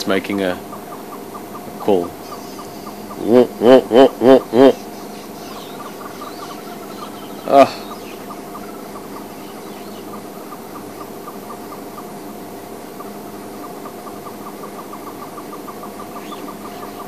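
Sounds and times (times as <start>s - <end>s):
birds chirping rapidly: 0.0s - 17.0s
bird loud cry: 0.6s - 11.6s, 13.6s - 17.0s.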